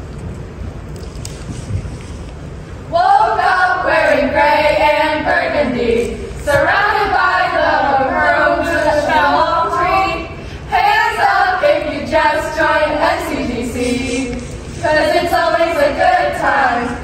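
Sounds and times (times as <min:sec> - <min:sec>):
women singing unaccompanied: 0:02.9 - 0:17.0.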